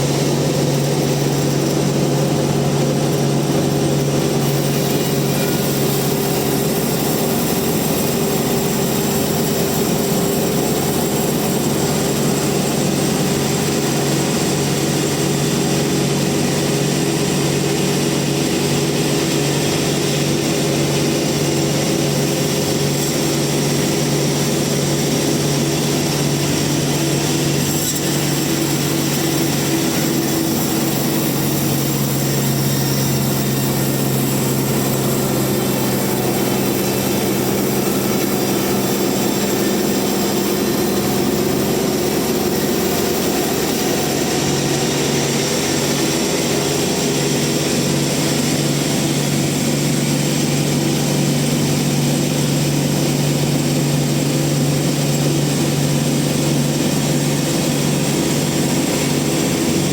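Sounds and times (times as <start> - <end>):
bandsaw sawing log: 0.0 - 59.9.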